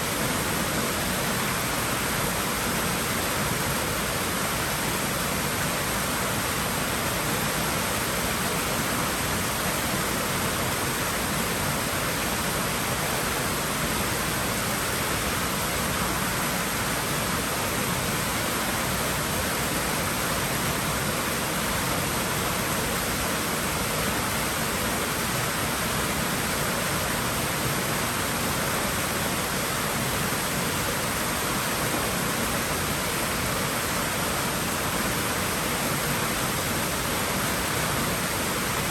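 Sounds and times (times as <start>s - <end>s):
water rushing in a pool: 0.0s - 38.9s.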